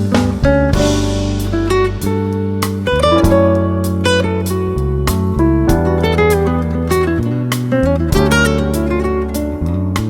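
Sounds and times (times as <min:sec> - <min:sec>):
plucked guitar notes: 0:00.0 - 0:10.0
sustained bass line: 0:00.0 - 0:10.0.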